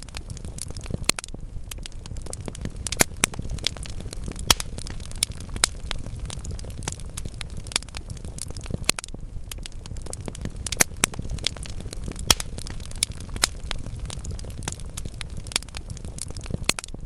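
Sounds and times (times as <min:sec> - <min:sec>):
fire popping: 0:00.0 - 0:17.0
logs crackling: 0:00.0 - 0:17.0
low rumble of flames: 0:00.0 - 0:17.0.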